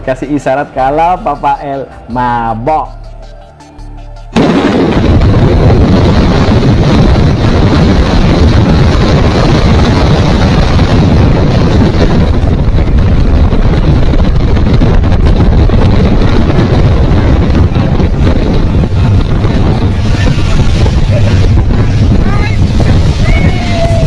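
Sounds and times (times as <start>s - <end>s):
boat and water noise: 4.4s - 24.0s
wind buffeting microphone: 4.4s - 24.0s.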